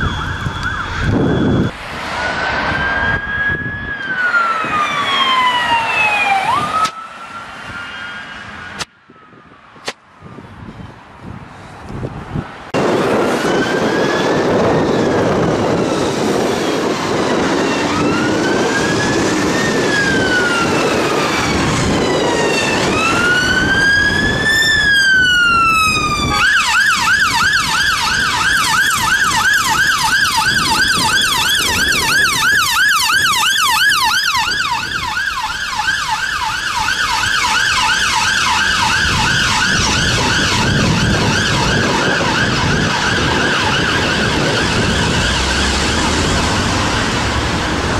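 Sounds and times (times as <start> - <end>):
two-tone electronic siren: 0.0 - 11.2, 12.2 - 47.9
traffic noise: 0.0 - 47.9.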